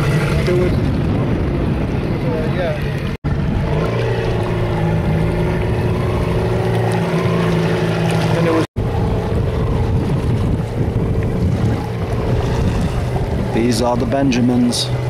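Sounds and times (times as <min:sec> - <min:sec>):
wind on microphone: 0:00.0 - 0:08.2, 0:08.8 - 0:15.0
motorboat engine humming: 0:00.0 - 0:15.0
water noise: 0:00.0 - 0:15.0.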